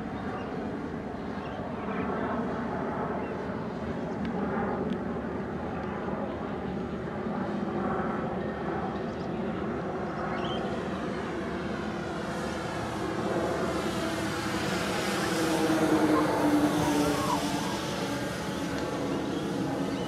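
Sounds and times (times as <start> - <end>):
model plane propellers droning: 0.0 - 20.0.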